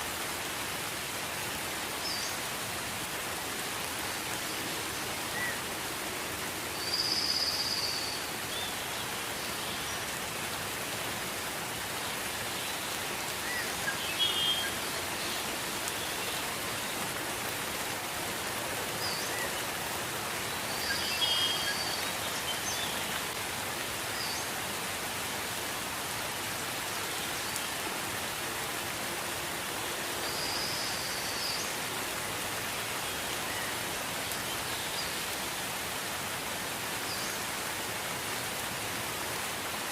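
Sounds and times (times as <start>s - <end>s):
steady gentle rain: 0.0s - 39.9s.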